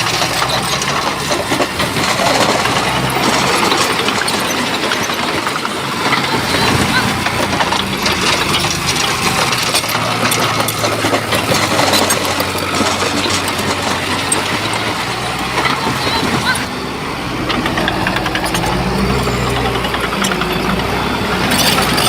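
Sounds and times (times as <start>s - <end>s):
bulldozer diesel engine running: 0.0s - 22.0s
clatter: 0.0s - 22.0s.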